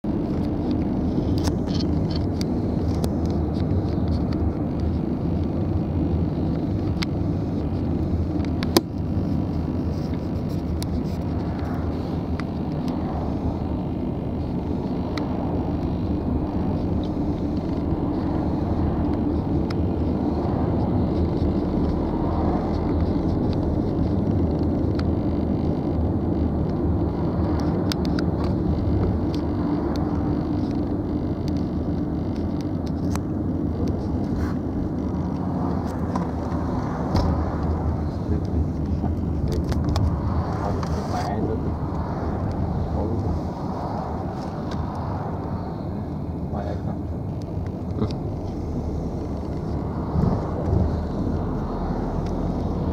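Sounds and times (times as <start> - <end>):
engine rumble with droning hum: 0.0 - 52.9.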